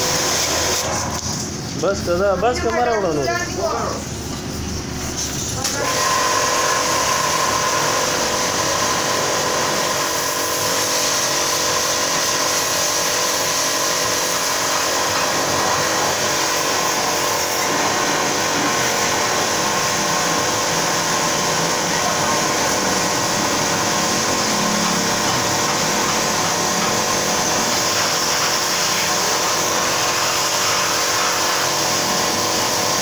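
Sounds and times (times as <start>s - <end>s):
high-pressure water jet hiss: 0.0s - 33.0s
pressure washer motor hum: 0.0s - 33.0s.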